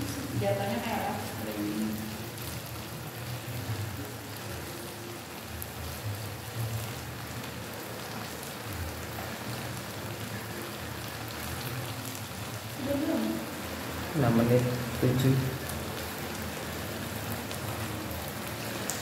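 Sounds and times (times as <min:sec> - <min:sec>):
shrimp sizzling in a wok: 0:00.0 - 0:19.0.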